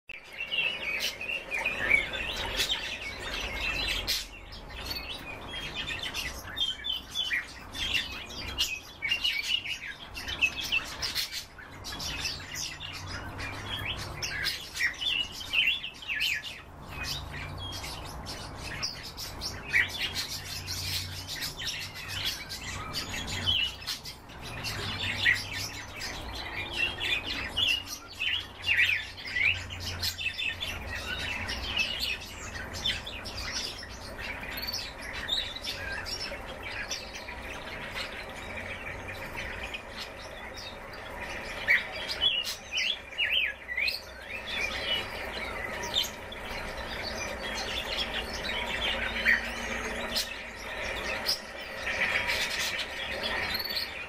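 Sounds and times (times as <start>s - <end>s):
songbirds chirping and trilling: 0.1s - 54.0s.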